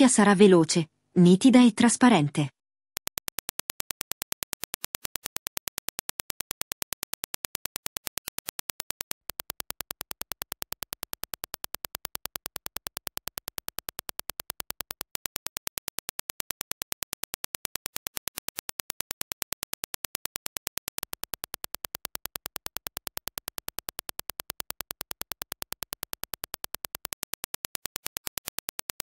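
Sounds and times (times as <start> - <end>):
rapid train of sharp clicks: 3.0 - 29.0.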